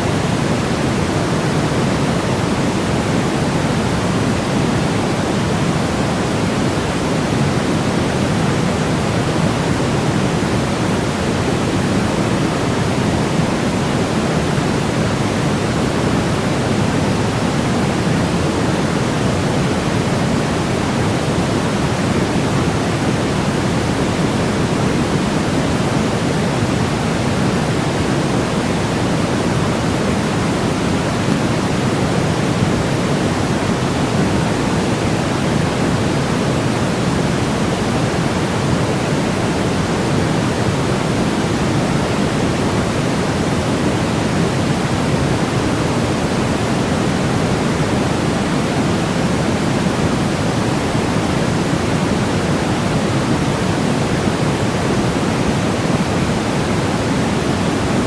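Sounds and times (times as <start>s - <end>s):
low white noise hiss: 0.0s - 58.0s.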